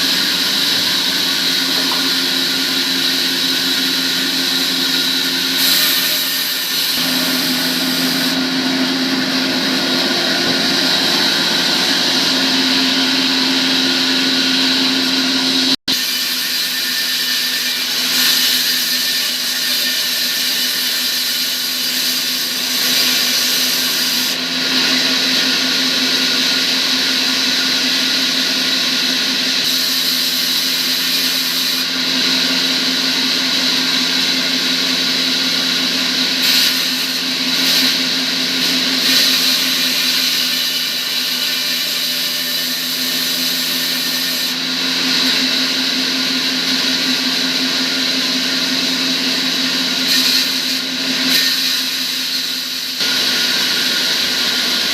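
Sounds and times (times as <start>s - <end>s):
power tool running with whine: 0.0s - 54.9s.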